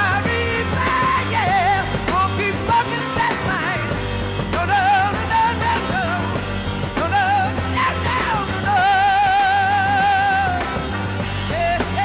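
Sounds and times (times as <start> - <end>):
bass guitar: 0.0 - 12.0
drums playing: 0.0 - 12.0
electric guitar: 0.0 - 12.0.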